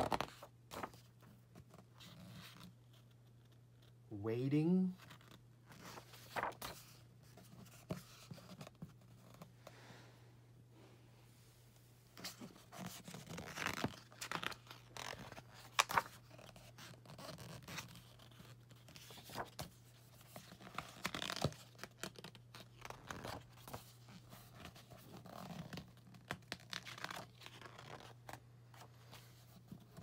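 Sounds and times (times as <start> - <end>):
book pages turning: 0.0 - 4.0, 5.0 - 9.5, 12.2 - 30.0.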